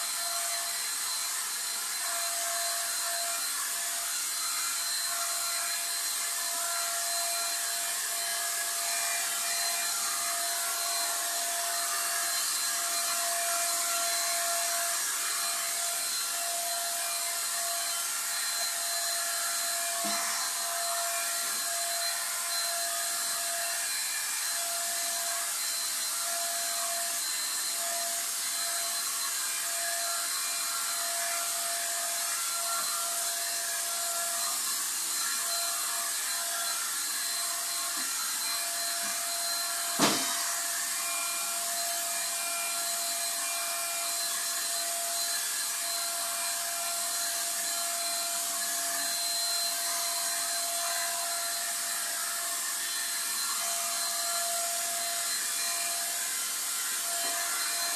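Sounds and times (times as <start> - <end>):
motor whine: 0.0 - 57.9.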